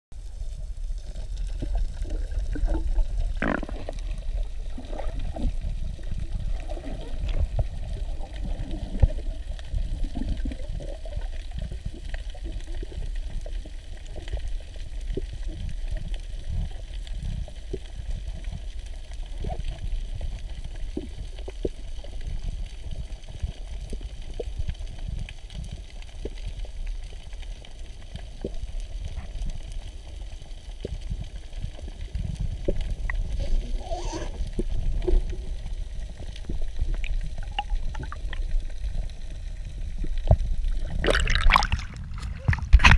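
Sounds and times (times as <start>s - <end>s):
small clicks and crackles: 0.2s - 42.9s
underwater rumble of moving water: 0.2s - 42.9s
water gurgle: 0.2s - 42.9s.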